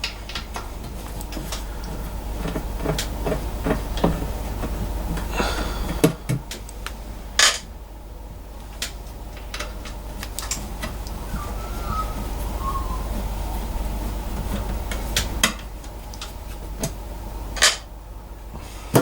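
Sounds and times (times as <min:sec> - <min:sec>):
low steady hum: 0:00.0 - 0:18.7.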